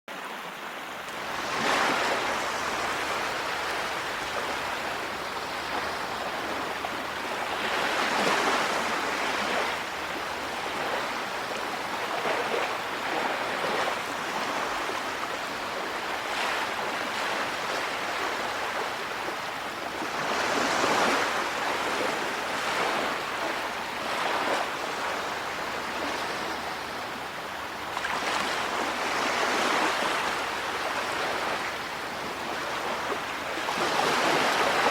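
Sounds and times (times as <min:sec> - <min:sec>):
ocean waves on shore: 0:00.1 - 0:34.9.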